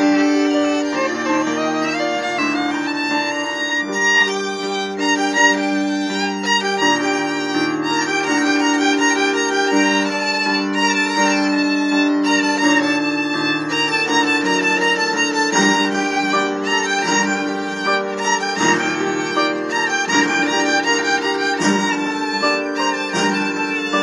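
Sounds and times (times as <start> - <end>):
solo violin melody: 0.0 - 24.0.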